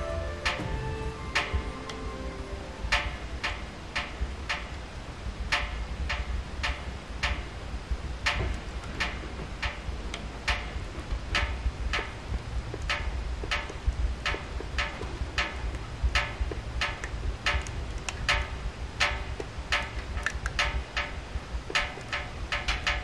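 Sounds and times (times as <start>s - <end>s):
low rumble of fire: 0.0s - 23.0s
wood crackling and popping: 0.0s - 23.0s.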